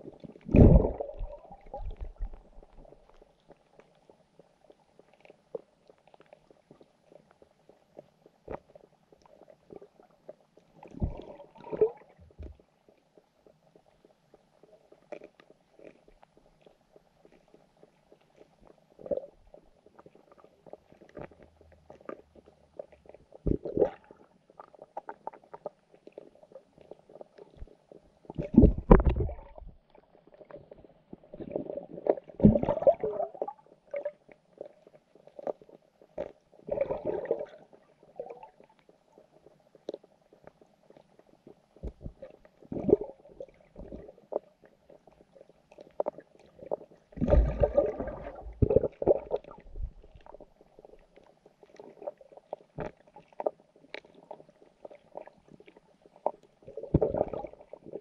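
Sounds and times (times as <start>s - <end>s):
dull underwater knocks and gurgles: 0.0s - 58.0s.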